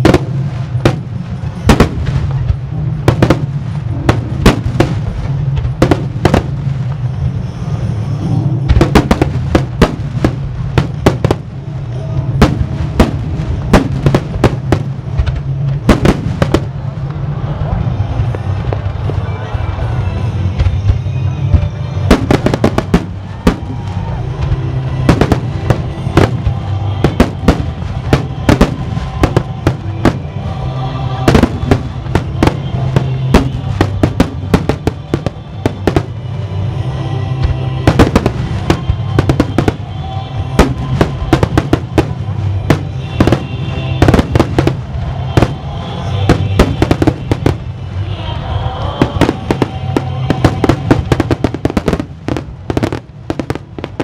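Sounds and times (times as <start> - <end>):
music playing: 0.0 - 54.0.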